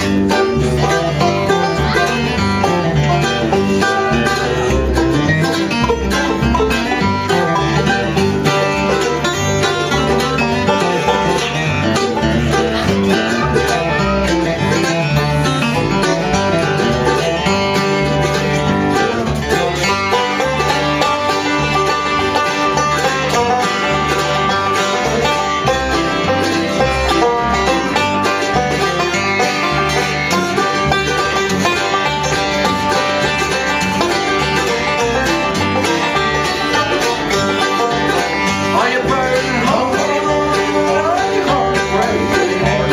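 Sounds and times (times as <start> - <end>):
banjo: 0.0 - 42.9
bluegrass band playing: 0.0 - 42.9.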